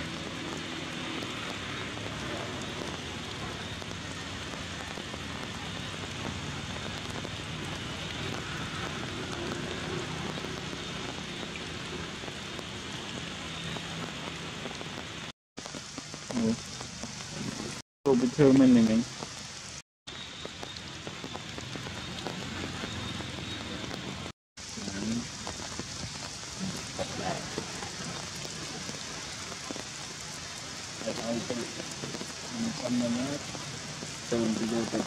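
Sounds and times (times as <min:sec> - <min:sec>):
rain-like hiss: 0:00.0 - 0:35.0.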